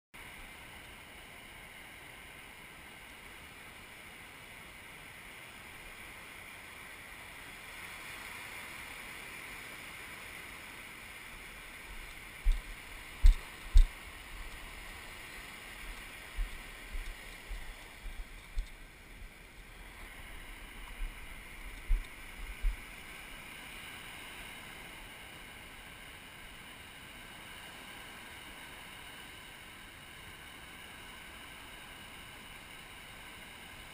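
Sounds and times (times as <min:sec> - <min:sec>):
surf breaking on a beach: 0:00.2 - 0:33.9.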